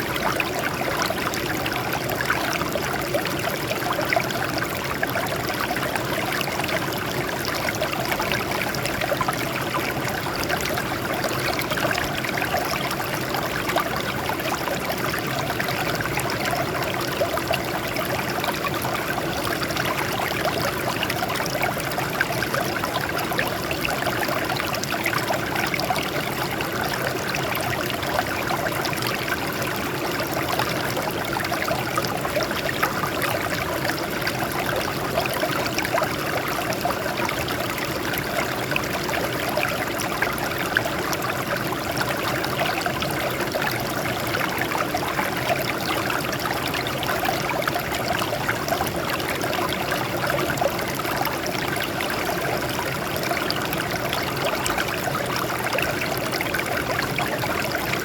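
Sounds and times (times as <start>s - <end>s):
water trickling over rocks: 0.1s - 58.0s.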